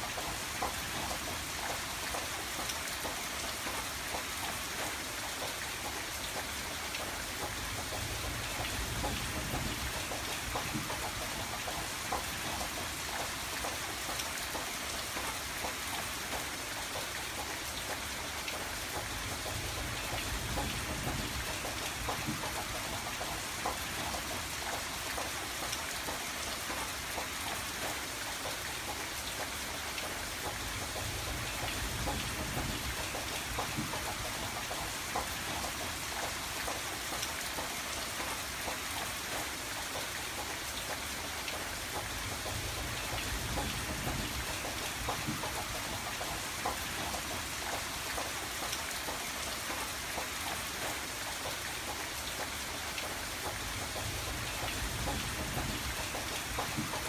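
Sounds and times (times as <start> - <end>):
rain pattering on a window: 0.0 - 57.0.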